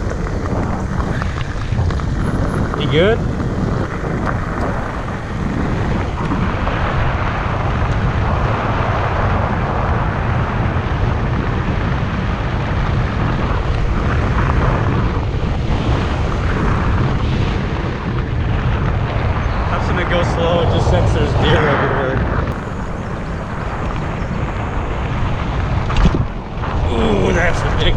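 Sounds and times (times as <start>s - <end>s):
low tyre rumble: 0.0s - 27.9s
wind on microphone: 0.0s - 27.9s.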